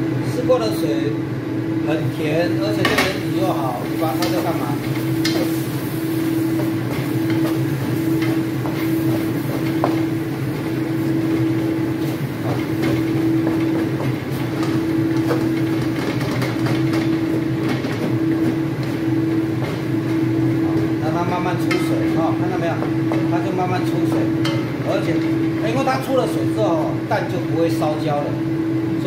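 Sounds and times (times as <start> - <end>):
loud mechanical hum: 0.0 - 29.0.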